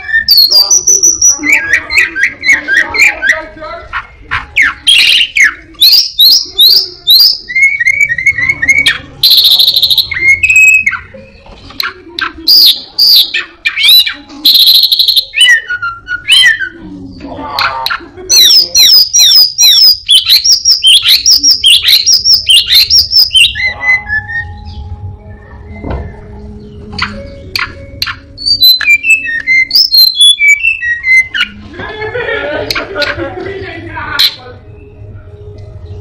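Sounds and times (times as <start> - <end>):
songbird singing: 0.0 - 31.8, 32.6 - 36.0.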